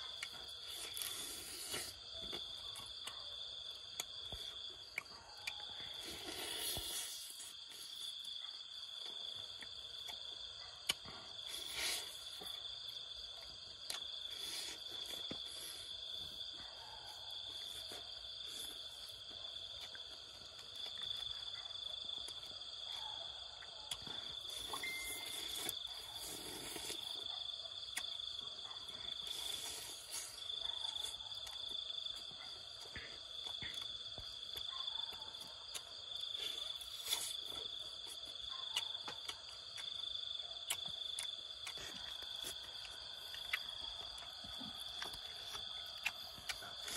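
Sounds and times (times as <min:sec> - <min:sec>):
chewing and crunching bones: 0:00.0 - 0:46.9
insects trilling: 0:00.0 - 0:46.9.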